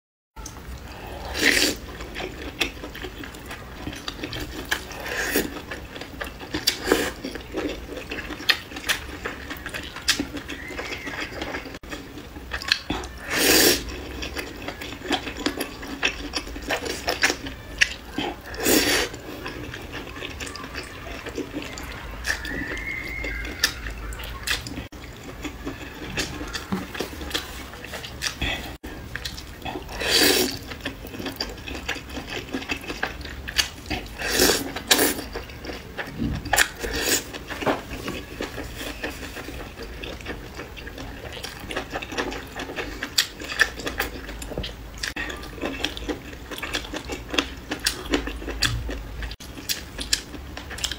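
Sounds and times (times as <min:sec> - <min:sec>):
slurping and chewing noodles: 0:00.7 - 0:50.9.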